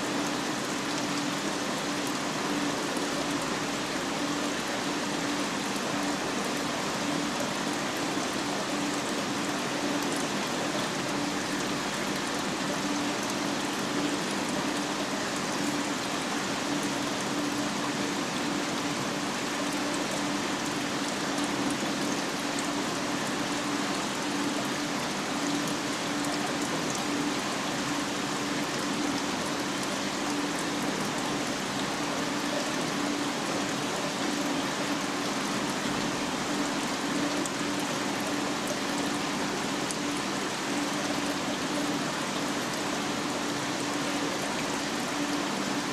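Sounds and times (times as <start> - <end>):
low pump hum: 0.0 - 45.9
rushing water: 0.0 - 45.9.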